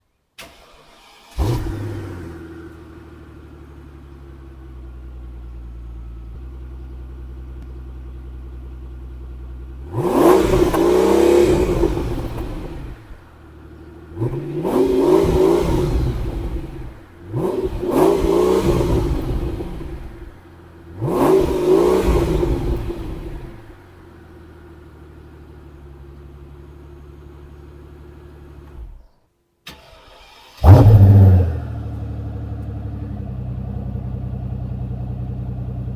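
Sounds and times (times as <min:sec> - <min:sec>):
car engine revving: 0:00.4 - 0:03.9, 0:09.7 - 0:29.0, 0:29.7 - 0:35.9
car engine starting and idling: 0:00.4 - 0:35.9.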